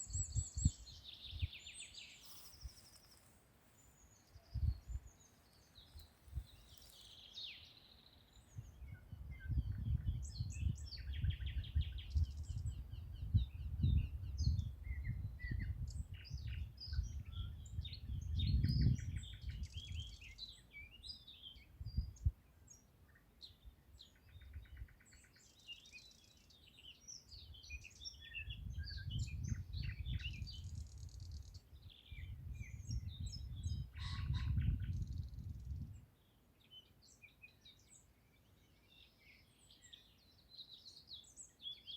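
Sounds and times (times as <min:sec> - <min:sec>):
songbirds singing and chirping: 0:00.0 - 0:41.9.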